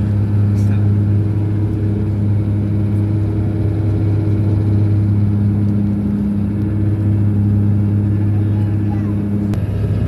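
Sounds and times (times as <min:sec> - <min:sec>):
propeller and engine drone: 0:00.0 - 0:10.0.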